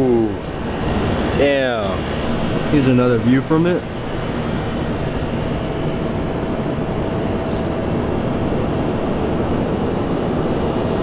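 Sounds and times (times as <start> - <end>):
low rumbling city drone: 0.0 - 11.0.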